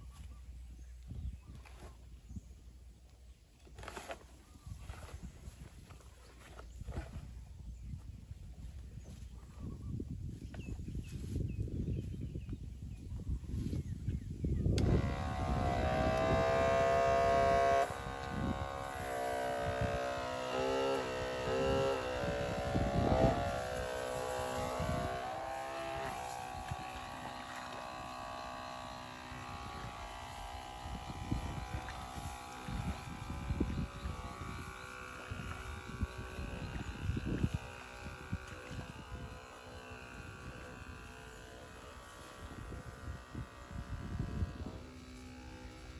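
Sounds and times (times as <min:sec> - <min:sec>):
wind rumbling on microphone: 0:00.0 - 0:02.8, 0:03.8 - 0:45.9
small engine buzzing: 0:00.0 - 0:12.4, 0:13.2 - 0:45.9.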